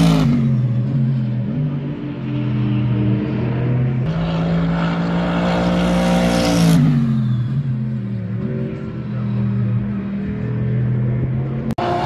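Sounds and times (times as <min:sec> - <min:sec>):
race car passing at speed: 0:01.5 - 0:08.0, 0:08.6 - 0:12.0.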